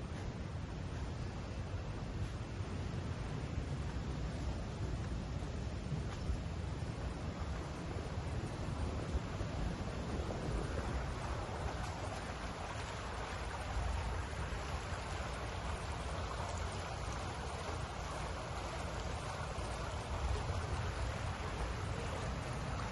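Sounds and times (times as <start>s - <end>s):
water fountain splashing: 2.7s - 22.9s.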